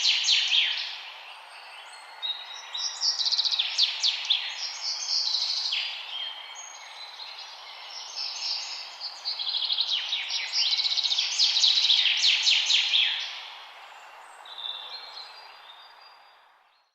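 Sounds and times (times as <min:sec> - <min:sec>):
steady background hiss: 0:00.0 - 0:16.7
small birds chirping and trilling: 0:00.0 - 0:16.9.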